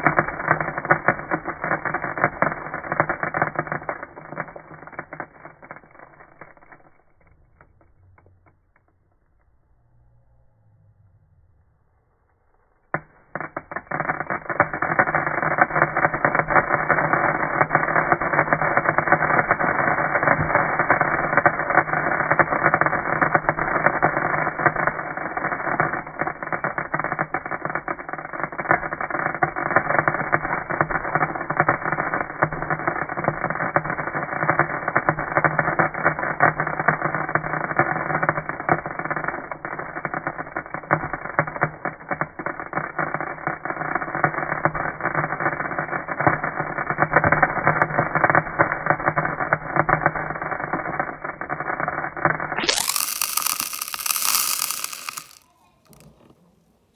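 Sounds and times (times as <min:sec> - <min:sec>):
fireworks crackling hiss: 0:00.0 - 0:08.9, 0:12.9 - 0:56.9.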